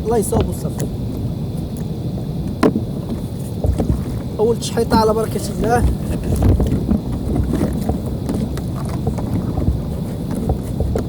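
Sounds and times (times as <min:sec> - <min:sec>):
wind buffeting microphone: 0:00.0 - 0:11.0
water slapping against kayak: 0:00.1 - 0:11.0.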